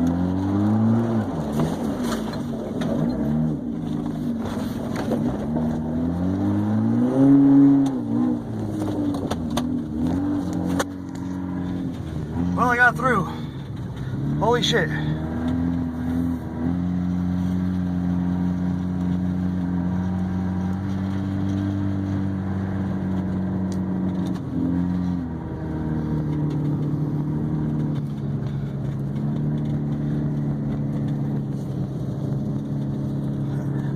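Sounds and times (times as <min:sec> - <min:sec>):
car engine humming while driving: 0:00.0 - 0:33.9.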